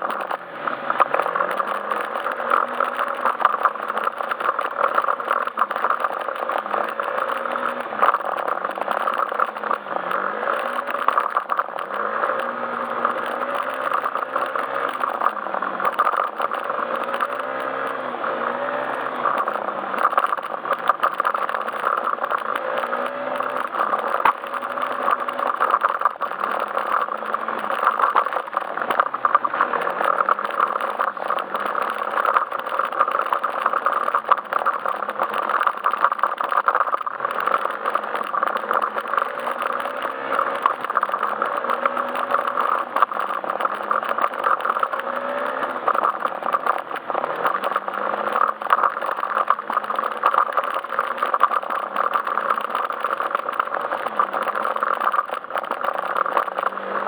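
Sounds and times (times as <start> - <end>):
constant rattle: 0.0 - 57.0
scooter engine revving: 0.0 - 57.0.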